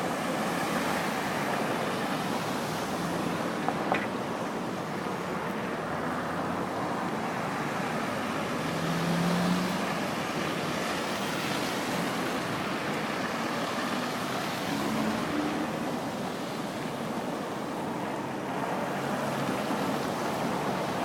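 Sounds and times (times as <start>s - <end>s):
street traffic: 0.0s - 21.0s.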